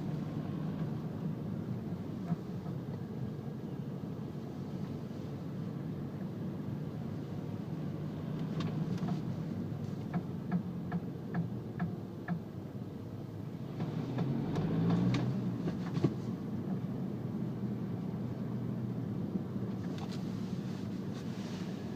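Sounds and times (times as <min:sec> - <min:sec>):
car low rumble: 0:00.0 - 0:21.9.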